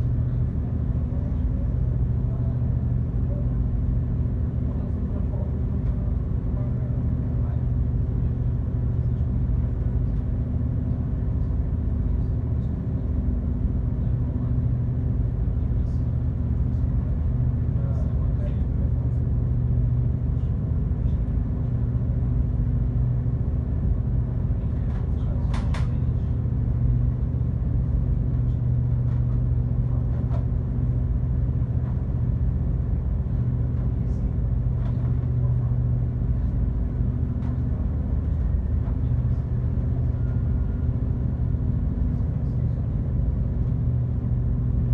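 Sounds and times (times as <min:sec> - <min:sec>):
ferry engines droning: 0:00.0 - 0:44.9.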